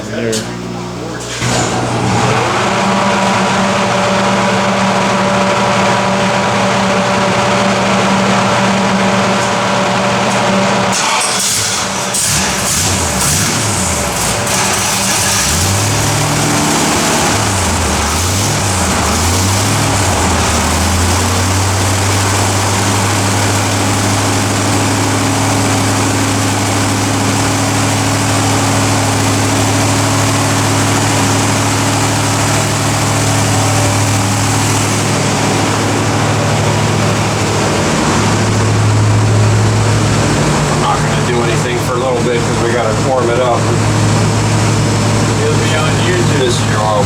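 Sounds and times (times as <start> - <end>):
engine revving and idling: 0.6 - 47.0.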